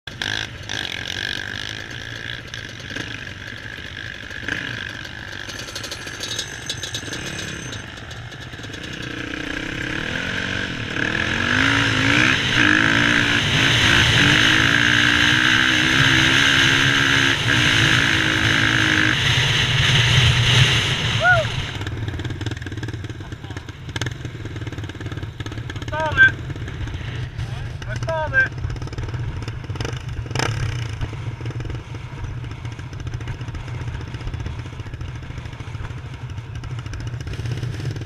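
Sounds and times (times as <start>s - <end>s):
dirt bike engine revving: 0.1s - 38.0s.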